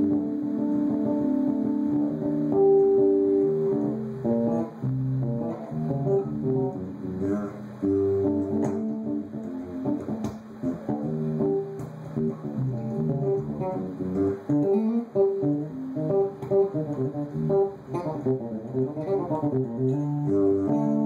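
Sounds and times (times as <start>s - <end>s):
bass guitar plucked notes: 0.0s - 21.0s.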